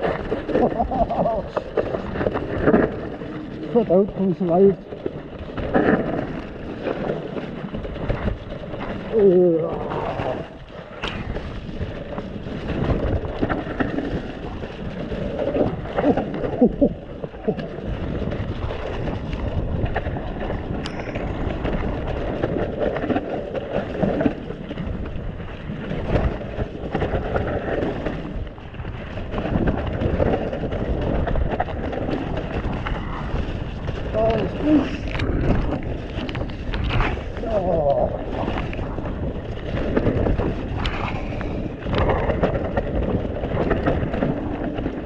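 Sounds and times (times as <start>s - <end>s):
bike rattling and knocking: 0.0s - 45.0s
tyres in mud: 0.0s - 45.0s
wind rushing over microphone: 0.0s - 45.0s.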